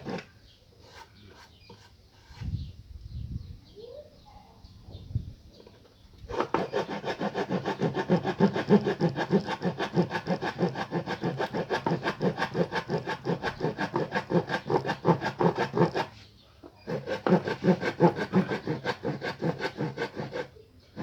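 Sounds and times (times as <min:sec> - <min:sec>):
hand saw sawing: 0:00.0 - 0:02.4, 0:06.3 - 0:21.0.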